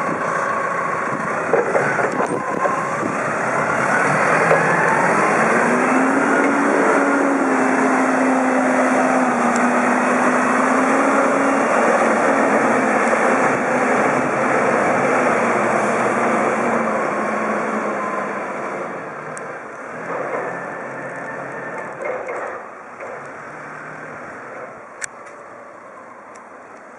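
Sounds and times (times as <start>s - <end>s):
diesel forklift engine running: 0.0s - 25.1s.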